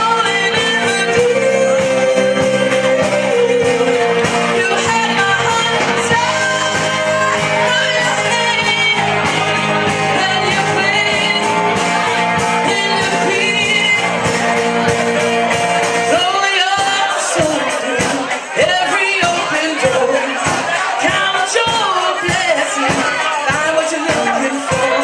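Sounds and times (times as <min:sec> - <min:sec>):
amplified electric guitars: 0:00.0 - 0:25.0
person singing into a microphone: 0:00.0 - 0:25.0
rock band playing: 0:00.0 - 0:25.0.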